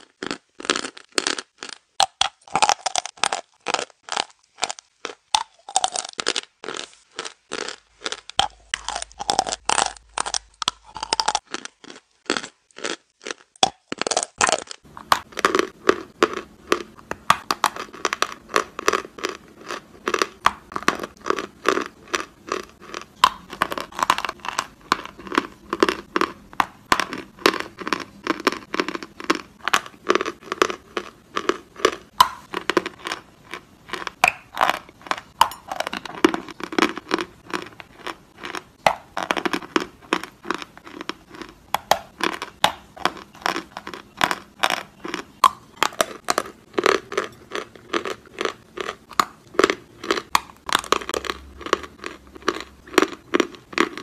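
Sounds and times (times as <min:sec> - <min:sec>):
chalk crunching between teeth: 0:00.0 - 0:54.0.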